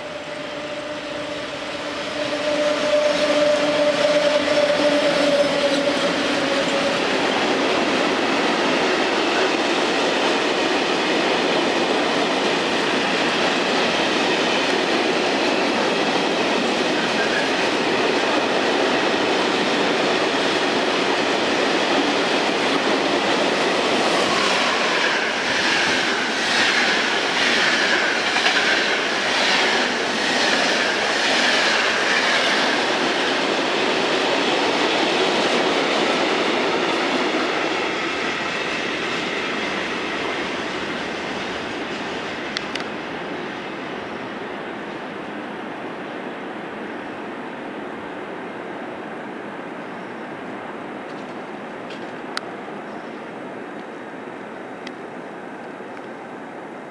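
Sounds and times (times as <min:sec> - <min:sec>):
train wheels rumbling on rails: 0:00.0 - 0:47.1.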